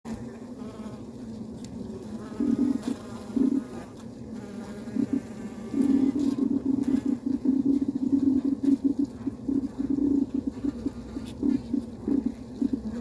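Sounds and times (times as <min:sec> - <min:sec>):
bee colony humming: 0:00.1 - 0:13.0
stuttering pulsing buzz: 0:02.2 - 0:13.0.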